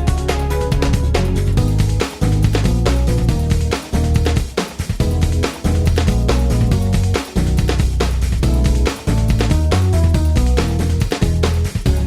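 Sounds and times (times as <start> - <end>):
music with heavy bass and steady beat: 0.0 - 12.0.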